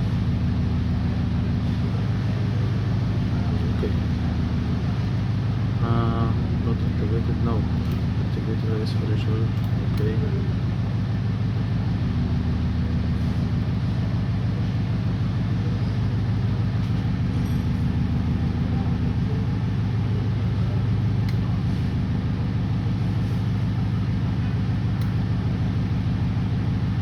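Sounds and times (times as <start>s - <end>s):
loud low machine hum: 0.0s - 27.0s.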